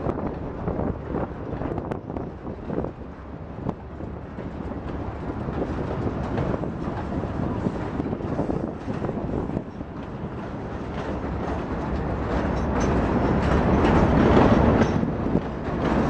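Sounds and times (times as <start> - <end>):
freight train wheels clicking: 0.0 - 16.0.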